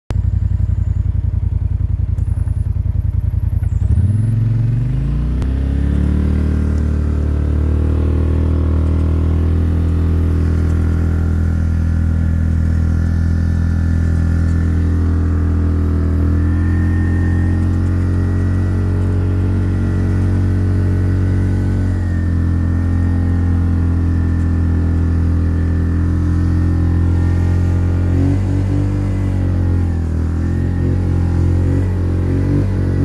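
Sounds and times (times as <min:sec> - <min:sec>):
atv engine idling and revving: 0:00.1 - 0:33.0.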